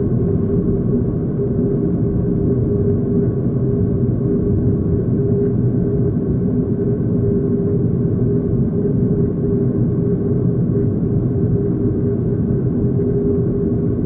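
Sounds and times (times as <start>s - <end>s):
jet engines heard in cabin: 0.0s - 14.0s.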